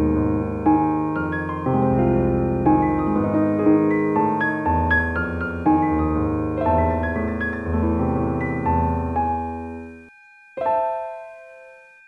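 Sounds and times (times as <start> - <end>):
soft solo piano music: 0.0 - 12.0.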